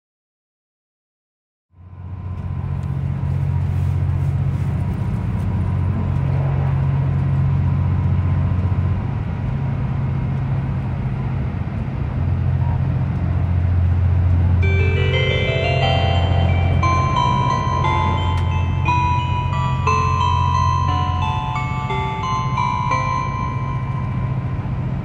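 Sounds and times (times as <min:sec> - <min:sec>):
diesel engine droning: 0:01.8 - 0:25.0.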